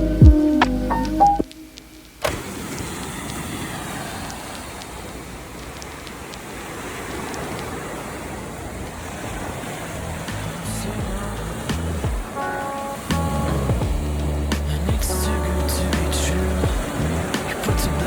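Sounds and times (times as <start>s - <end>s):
road and tyre noise: 2.2s - 18.0s.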